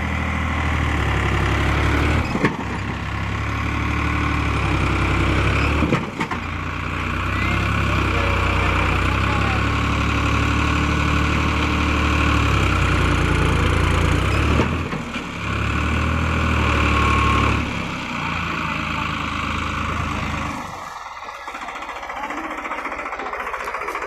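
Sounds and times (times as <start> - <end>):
engine knocking: 0.0 - 24.0
tractor diesel engine working: 0.0 - 24.0.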